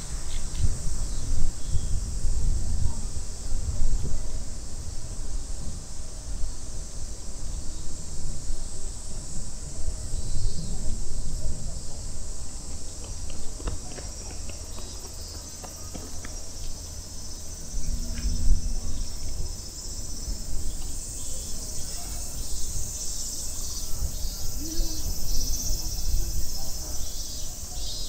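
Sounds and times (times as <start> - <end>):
cicadas buzzing: 0.0 - 28.0
low rumble of wind: 0.0 - 28.0.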